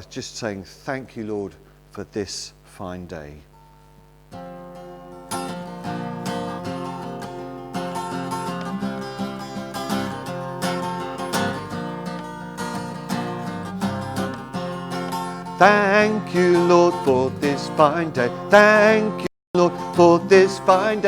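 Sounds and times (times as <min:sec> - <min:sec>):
acoustic guitar strumming chords: 0:02.8 - 0:21.0.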